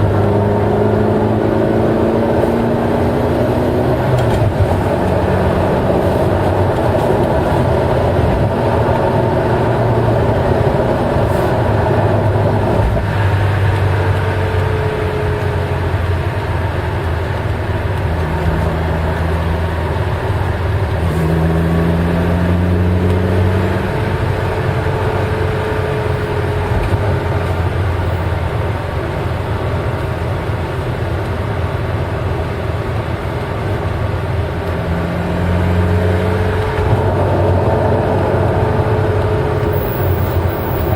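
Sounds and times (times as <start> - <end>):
car engine droning: 0.0 - 40.9
road noise: 0.0 - 40.9.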